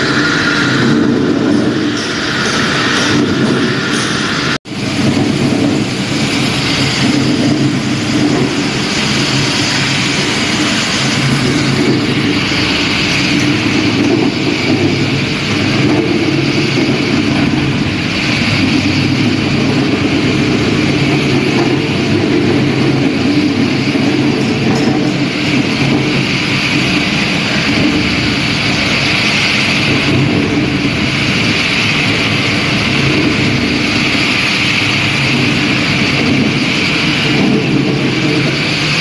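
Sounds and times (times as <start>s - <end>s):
floor grinder motor drone: 0.0s - 39.0s.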